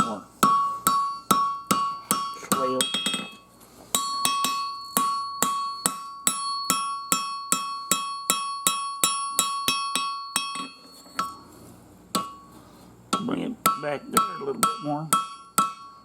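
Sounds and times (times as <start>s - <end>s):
hammer striking steel on anvil: 0.0s - 11.5s, 12.2s - 12.5s, 13.1s - 16.0s.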